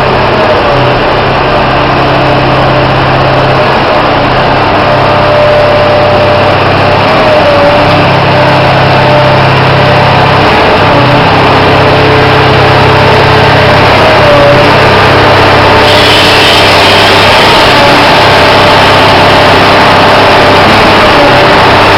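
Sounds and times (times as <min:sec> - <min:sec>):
concrete pump engine drone: 0:00.0 - 0:21.9.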